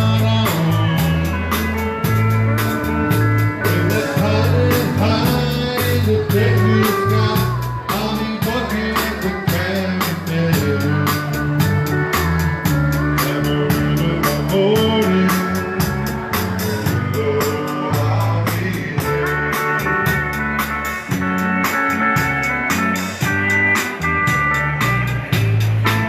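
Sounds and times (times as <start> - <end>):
dance band playing live: 0.0 - 26.0
steady drum beat: 0.0 - 26.0.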